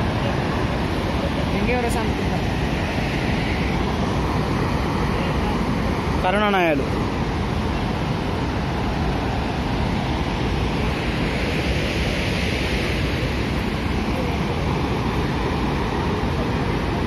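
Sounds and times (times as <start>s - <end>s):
water roaring down spillway: 0.0s - 17.0s.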